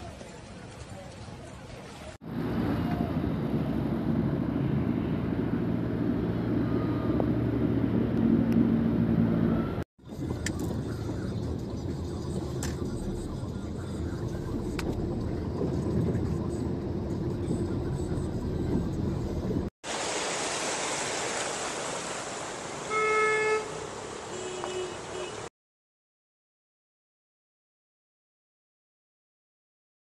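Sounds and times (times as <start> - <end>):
vehicles driving through water: 0.0 - 25.5.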